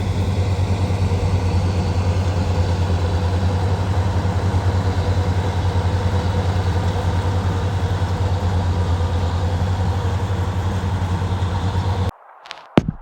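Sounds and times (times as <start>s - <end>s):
engine running steadily: 0.0s - 12.1s.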